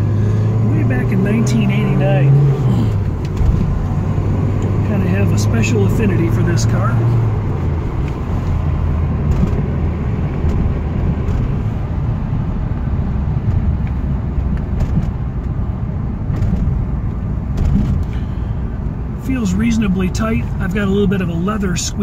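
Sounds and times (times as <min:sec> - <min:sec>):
car engine pulling steadily: 0:00.0 - 0:22.0
road noise: 0:00.0 - 0:22.0.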